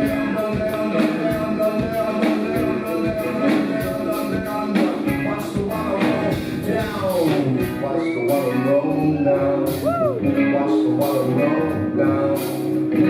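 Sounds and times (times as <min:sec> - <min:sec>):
live rock band: 0:00.0 - 0:13.0.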